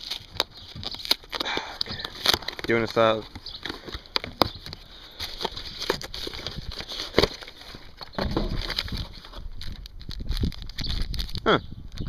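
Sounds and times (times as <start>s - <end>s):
low rumbling handling noise: 0.0s - 11.2s
packaging rustling and clicking: 0.0s - 11.4s.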